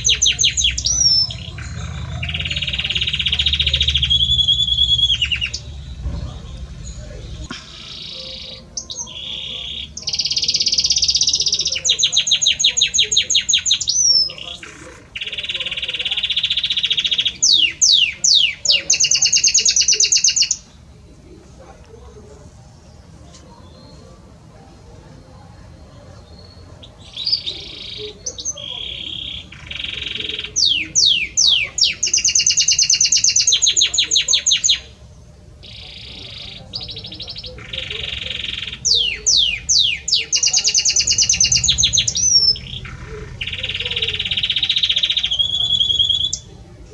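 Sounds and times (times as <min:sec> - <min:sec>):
canary singing trills: 0:00.0 - 0:20.9, 0:25.2 - 0:46.9.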